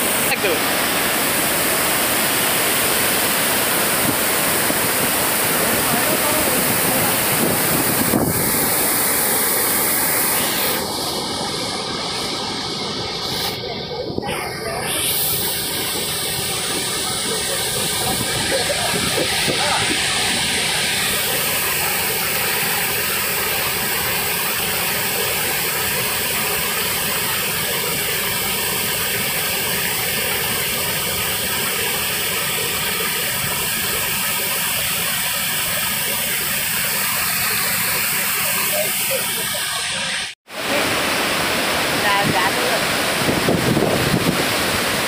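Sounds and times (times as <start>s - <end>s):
river water pouring over weir: 0.0s - 45.0s.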